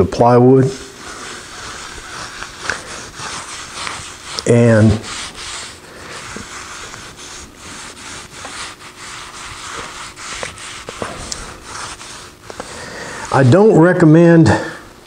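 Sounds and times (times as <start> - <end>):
cloth rag rubbing wooden board: 0.3 - 13.8.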